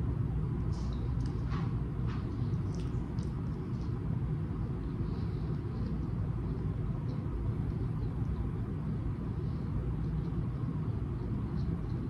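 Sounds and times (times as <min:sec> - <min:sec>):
soft chewing clicks: 0:00.8 - 0:12.0.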